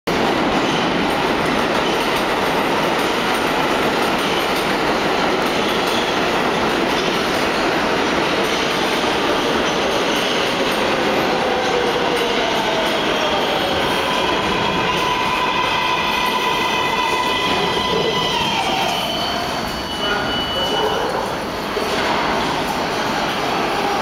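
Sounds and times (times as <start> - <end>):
steel wheels rushing on rail: 0.1 - 24.0.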